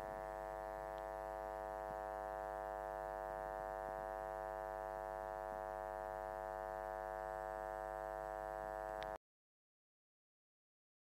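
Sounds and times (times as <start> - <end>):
electrical hum: 0.0 - 9.2.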